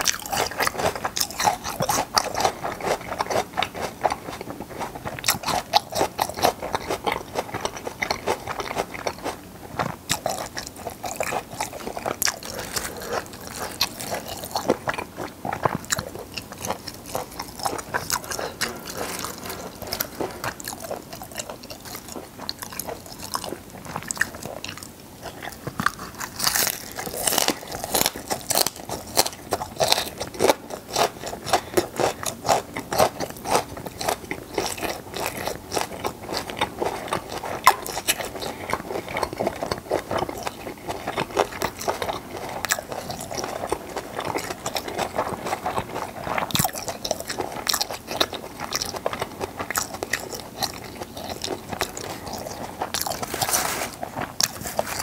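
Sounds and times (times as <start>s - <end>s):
close chewing and biting: 0.0s - 55.0s.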